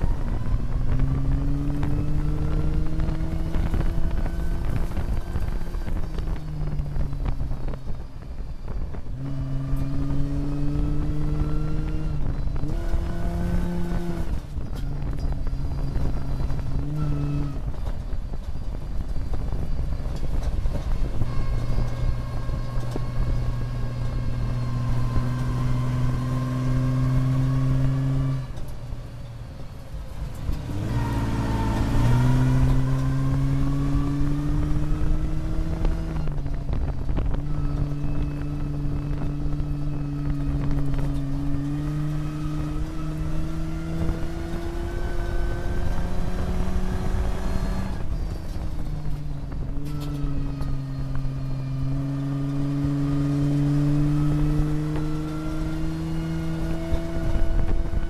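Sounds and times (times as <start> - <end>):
truck engine from inside cab: 0.0 - 58.0.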